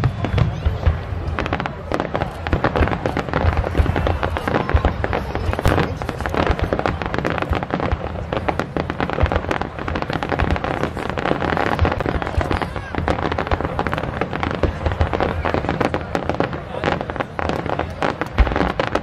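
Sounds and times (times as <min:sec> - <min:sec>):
crackling firework pops: 0:00.0 - 0:19.0
fireworks booming: 0:00.0 - 0:19.0.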